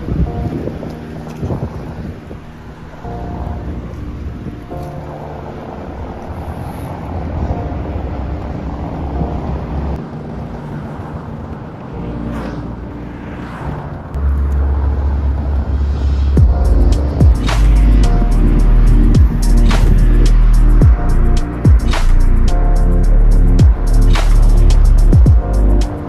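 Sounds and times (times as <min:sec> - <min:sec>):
car traffic passing: 0:00.0 - 0:26.0
wind rumbling on microphone: 0:00.0 - 0:26.0.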